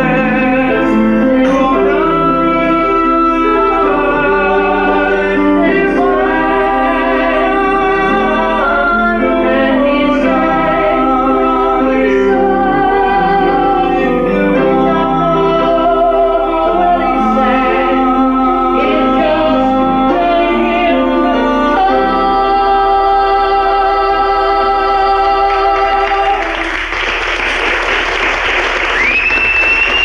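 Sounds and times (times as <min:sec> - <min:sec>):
man and woman singing: 0:00.0 - 0:26.8
piano accompaniment: 0:00.0 - 0:30.0.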